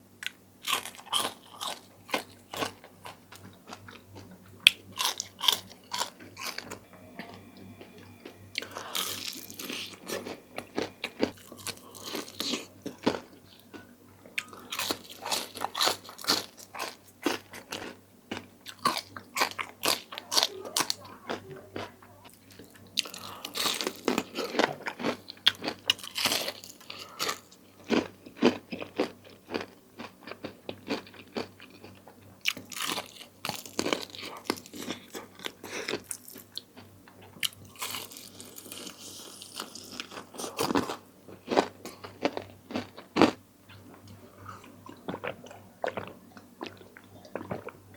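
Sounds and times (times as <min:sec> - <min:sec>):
crunchy chewing: 0:00.2 - 0:06.8, 0:08.5 - 0:47.9.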